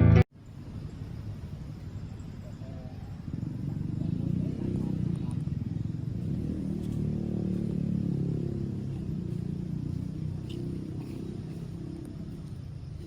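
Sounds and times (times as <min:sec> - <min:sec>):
vehicle engine low rumble: 0:00.0 - 0:13.0.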